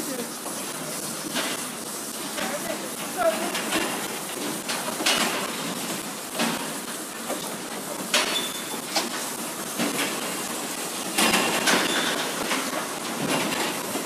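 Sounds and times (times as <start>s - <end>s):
milking machine hissing: 0.0s - 14.0s.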